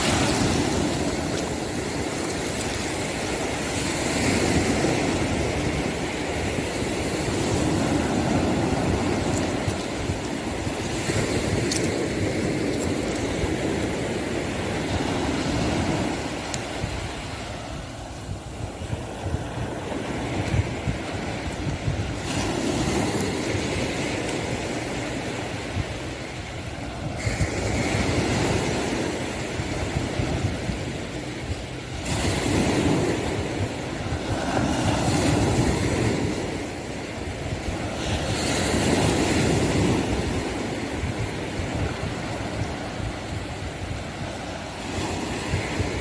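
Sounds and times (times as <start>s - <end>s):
sea waves washing onto beach: 0.0s - 46.0s
wind buffeting microphone: 0.0s - 46.0s.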